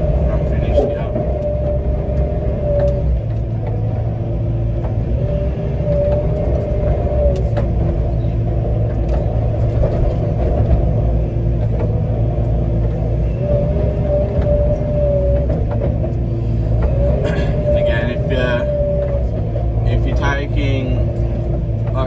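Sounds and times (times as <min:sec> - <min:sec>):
excavator engine rumble: 0:00.0 - 0:22.0
hydraulic whine: 0:00.0 - 0:22.0.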